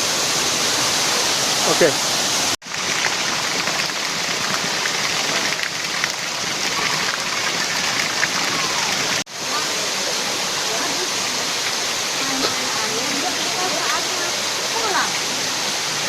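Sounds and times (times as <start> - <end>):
waterfall crashing into pool: 0.0 - 16.0.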